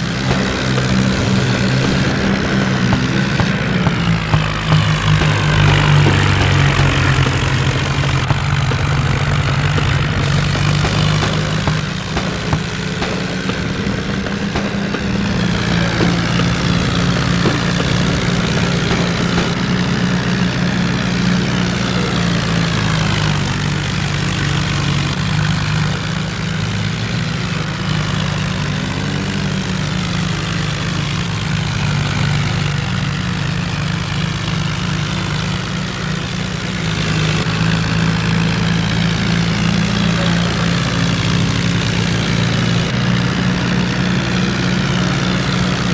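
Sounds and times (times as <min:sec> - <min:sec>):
tractor diesel engines under load: 0:00.0 - 0:45.9.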